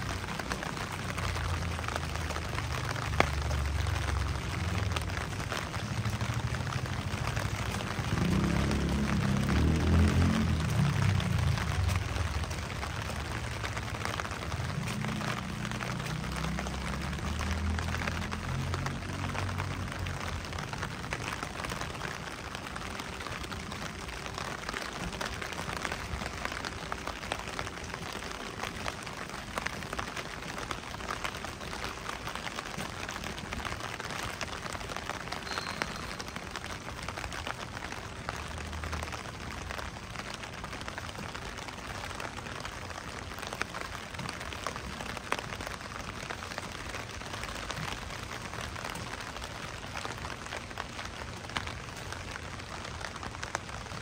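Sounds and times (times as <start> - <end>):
rain falling on street: 0.0 - 54.0.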